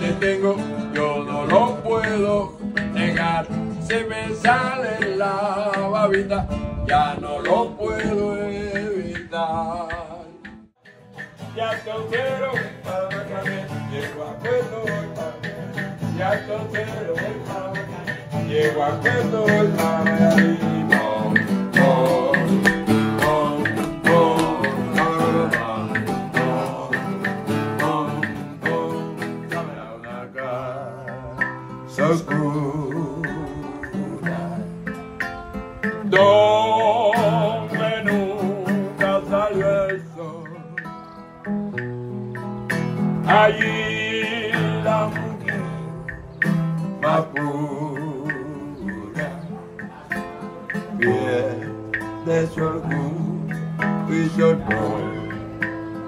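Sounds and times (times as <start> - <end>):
men singing: 0.0 - 10.6, 11.2 - 35.2, 35.8 - 41.0, 43.2 - 56.0
acoustic guitar strumming: 0.0 - 56.0.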